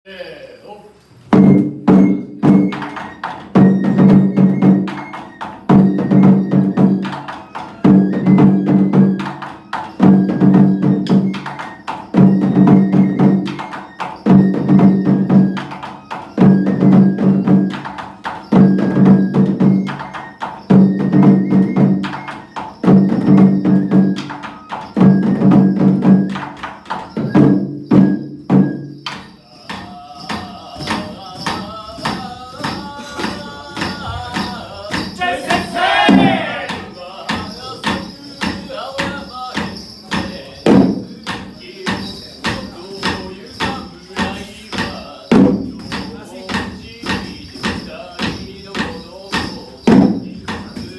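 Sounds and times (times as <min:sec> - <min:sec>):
rapid drum and wood-block strikes: 0:01.3 - 0:50.9.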